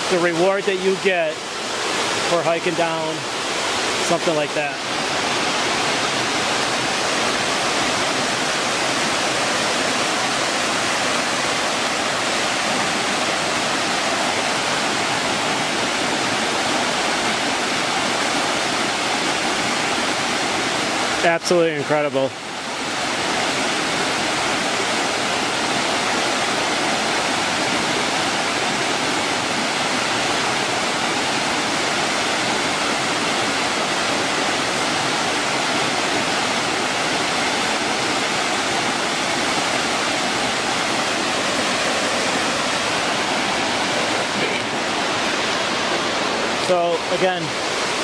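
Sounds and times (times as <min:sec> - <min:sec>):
creek running over rocks: 0:00.0 - 0:48.0
waterfall pouring into pool: 0:00.0 - 0:48.0.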